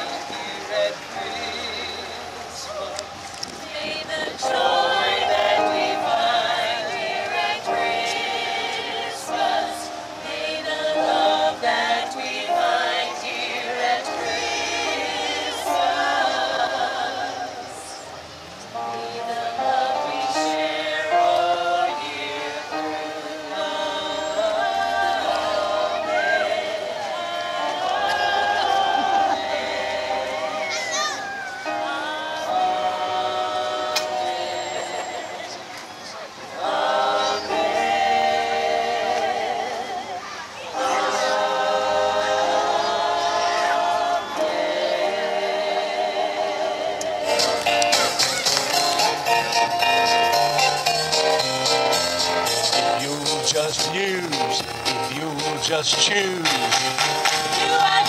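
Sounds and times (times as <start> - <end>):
group singing in harmony: 0.0 - 31.0, 31.6 - 58.0.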